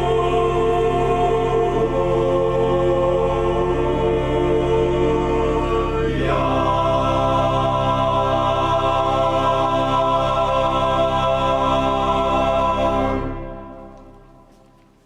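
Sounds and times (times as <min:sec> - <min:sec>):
choir singing held chords: 0:00.0 - 0:14.5.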